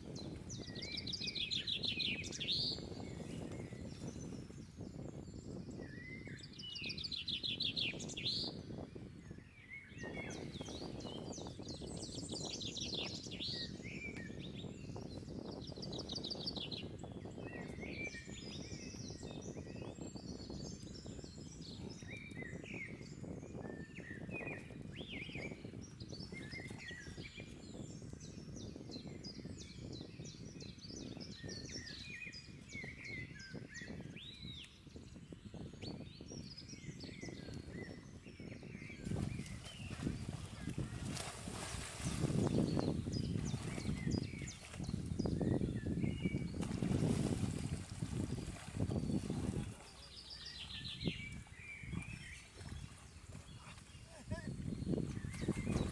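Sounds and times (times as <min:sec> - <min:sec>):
birds chirping and trilling: 0:00.1 - 0:55.9.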